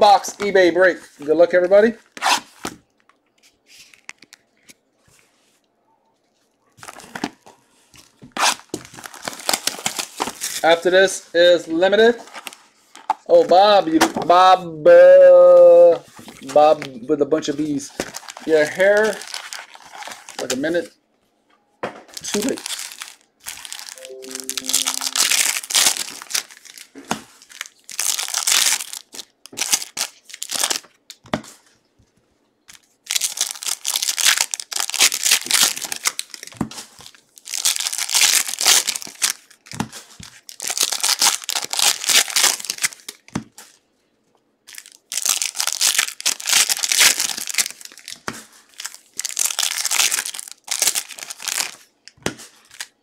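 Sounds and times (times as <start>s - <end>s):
plastic wrappers crinkling and tearing: 1.9s - 5.0s, 6.3s - 14.2s, 16.0s - 20.9s, 22.1s - 31.7s, 32.7s - 43.9s, 44.6s - 53.0s.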